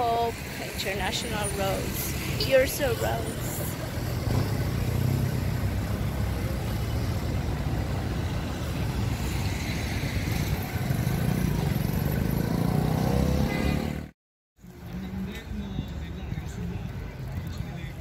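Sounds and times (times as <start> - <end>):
cars and motorcycles driving past: 0.0 - 18.0.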